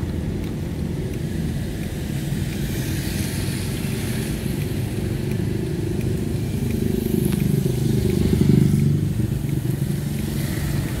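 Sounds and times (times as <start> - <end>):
road traffic engines rumbling: 0.0 - 11.0.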